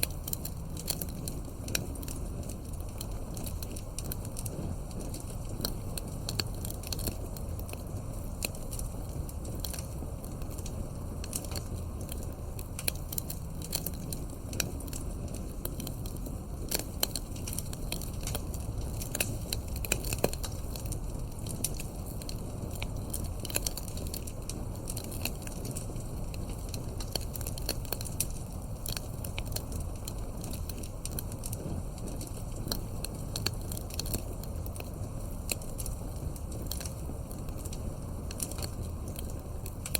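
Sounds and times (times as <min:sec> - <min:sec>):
low rumble of burning logs: 0:00.0 - 0:39.9
sharp pops and snaps: 0:00.0 - 0:39.9
wood fire crackling: 0:00.0 - 0:39.9.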